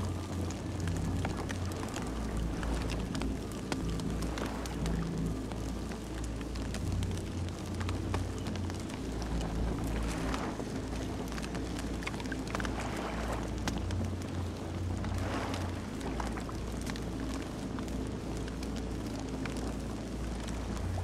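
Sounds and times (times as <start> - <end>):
campfire crackling and popping: 0.0 - 21.0
low roar of flames: 0.0 - 21.0.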